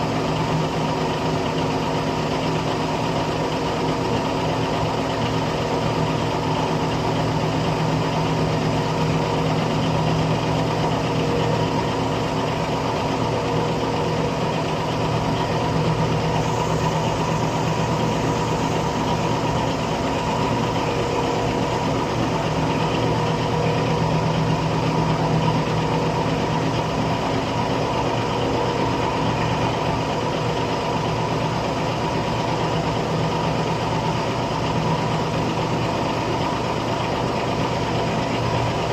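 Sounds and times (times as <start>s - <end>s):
concrete pump engine running: 0.0s - 38.9s.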